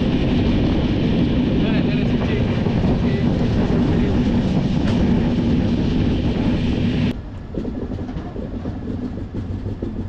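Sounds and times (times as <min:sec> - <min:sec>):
train rumble: 0:00.0 - 0:10.0
wind rushing: 0:00.0 - 0:10.0.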